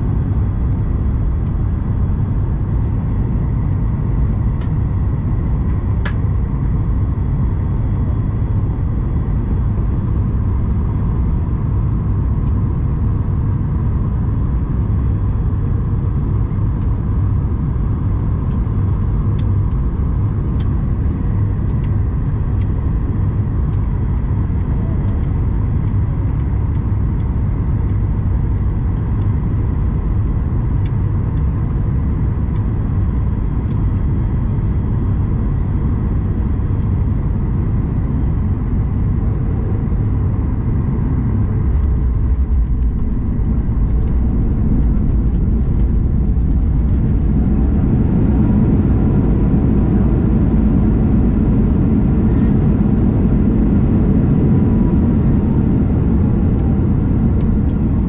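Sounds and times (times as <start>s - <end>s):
airflow and jet engine rumble: 0.0s - 58.0s
faint engine tone: 2.2s - 58.0s.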